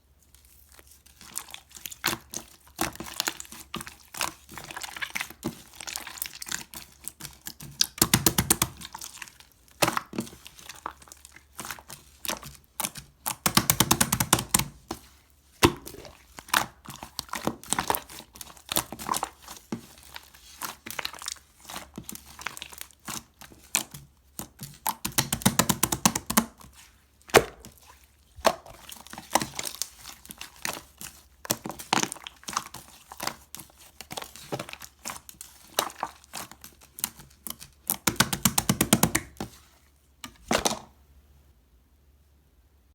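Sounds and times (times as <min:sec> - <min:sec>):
slime squished by hand: 0:00.4 - 0:40.9.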